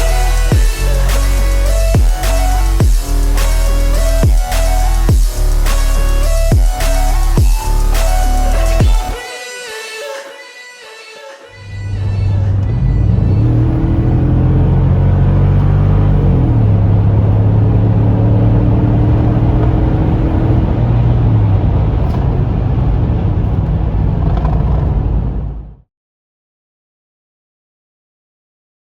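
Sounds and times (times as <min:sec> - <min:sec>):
car engine droning: 0:00.0 - 0:09.2, 0:11.6 - 0:25.8.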